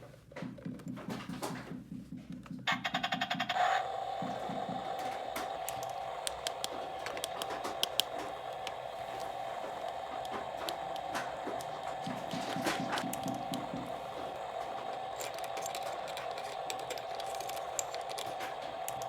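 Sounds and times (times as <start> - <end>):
toy motor humming: 2.7 - 19.0
plastic clicks: 3.0 - 19.0.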